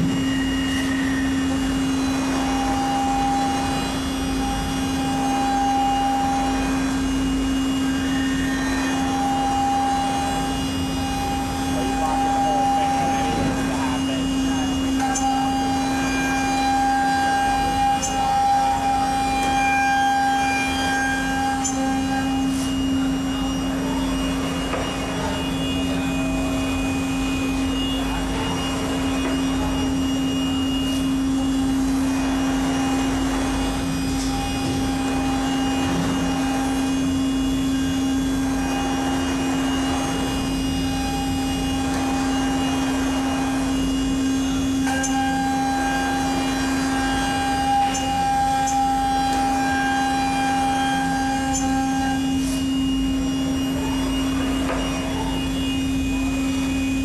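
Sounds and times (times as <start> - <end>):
router spindle running: 0.0 - 57.0.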